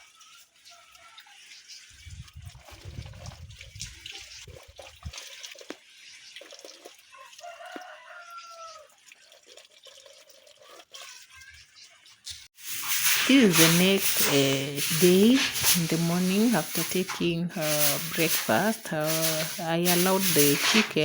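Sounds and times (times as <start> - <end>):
water splashing and dripping: 0.0 - 21.0.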